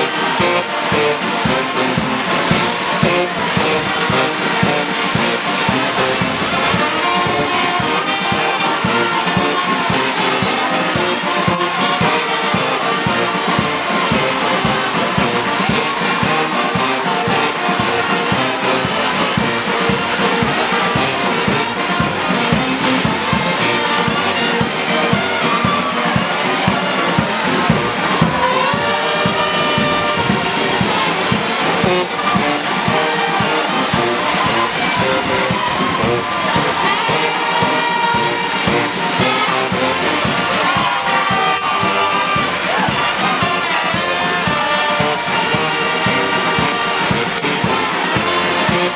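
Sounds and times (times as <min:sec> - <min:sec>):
brass band playing: 0:00.0 - 0:48.9.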